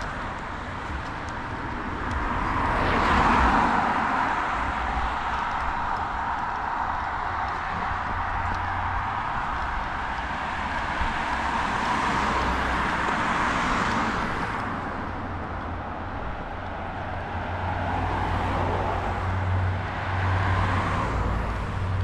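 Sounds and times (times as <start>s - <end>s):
car passing: 0.0s - 22.0s
low traffic rumble: 0.0s - 22.0s.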